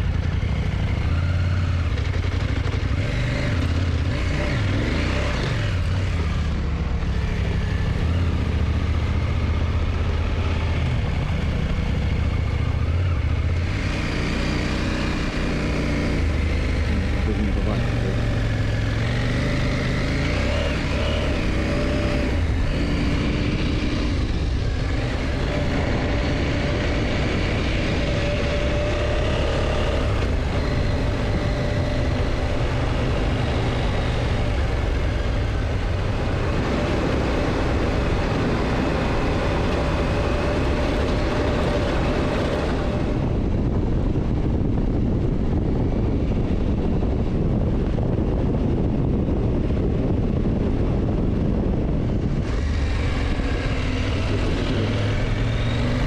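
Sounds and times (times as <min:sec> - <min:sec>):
motorcycle engine running: 0:00.0 - 0:56.0
rush of wind noise: 0:00.9 - 0:56.0.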